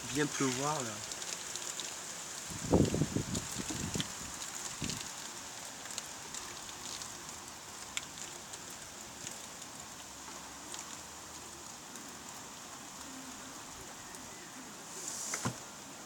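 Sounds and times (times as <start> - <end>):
raindrops ticking on hard surfaces: 0.0 - 14.4
heavy rain hissing: 0.0 - 16.0.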